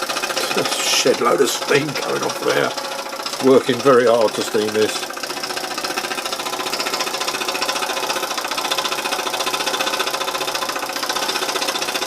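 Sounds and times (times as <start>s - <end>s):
steam engine running: 0.0s - 12.0s.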